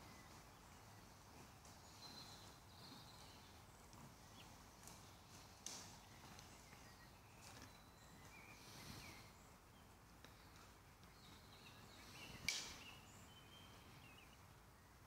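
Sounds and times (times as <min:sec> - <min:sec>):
soft rustle: 0:00.0 - 0:14.7.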